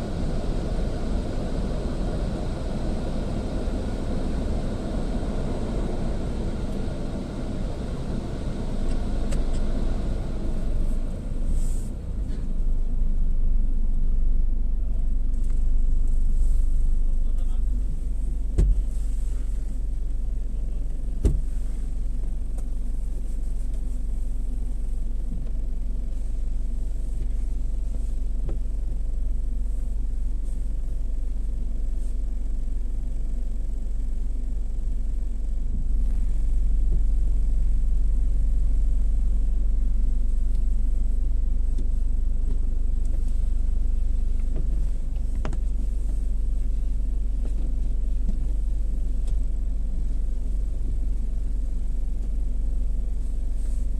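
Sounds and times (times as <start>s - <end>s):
car wash rumbling: 0.0s - 53.9s.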